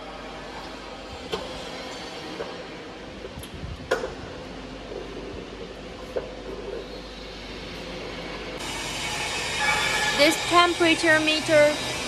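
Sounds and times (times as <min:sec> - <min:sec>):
workshop background noise: 0:00.0 - 0:12.0.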